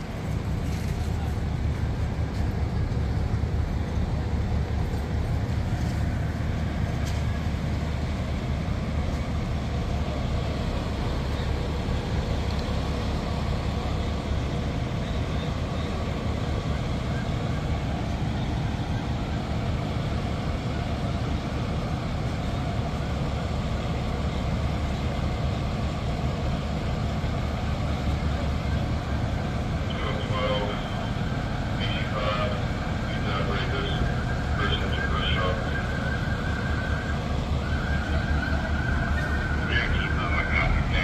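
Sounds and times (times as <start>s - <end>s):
vehicle engines idling: 0.0s - 41.0s.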